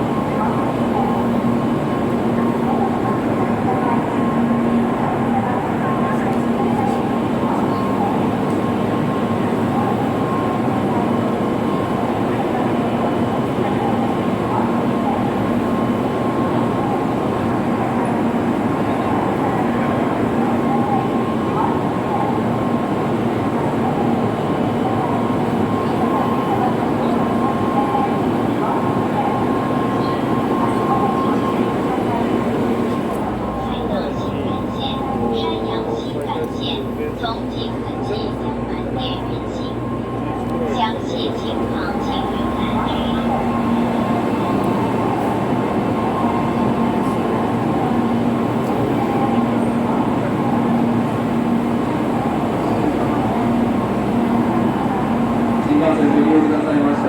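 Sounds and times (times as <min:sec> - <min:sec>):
train platform hum and hiss: 0:00.0 - 0:57.0.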